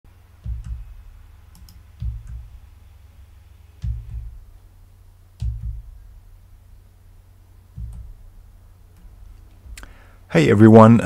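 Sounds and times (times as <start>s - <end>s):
dull low double knocks: 0.2s - 6.9s, 7.6s - 9.8s.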